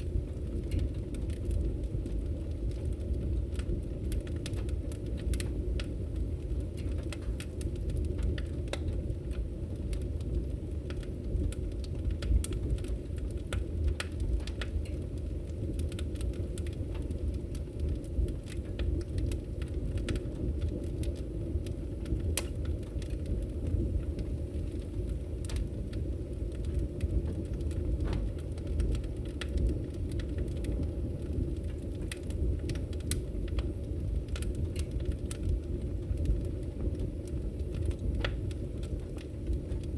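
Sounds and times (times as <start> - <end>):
fire flames rumbling: 0.0 - 39.9
logs popping and crackling: 0.0 - 39.9.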